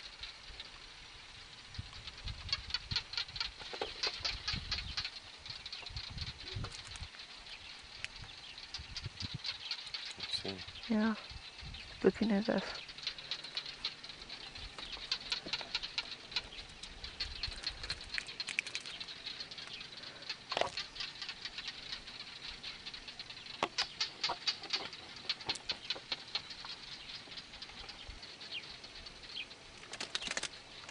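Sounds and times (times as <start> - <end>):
sharp clicks and ticks: 1.7 - 30.9.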